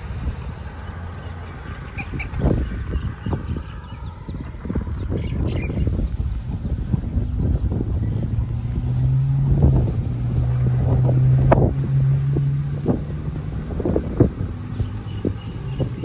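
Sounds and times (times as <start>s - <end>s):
passing vehicle engine hum: 0.0s - 16.0s
wind rumbling on microphone: 0.0s - 16.0s.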